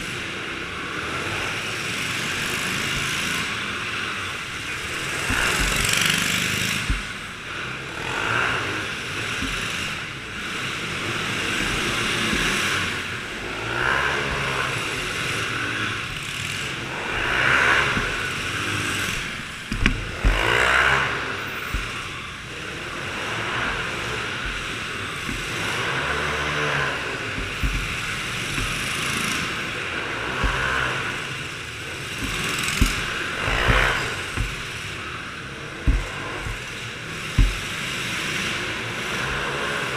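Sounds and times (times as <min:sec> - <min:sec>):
small engines passing by: 0:00.0 - 0:39.9
sharp knocks: 0:04.3 - 0:38.6.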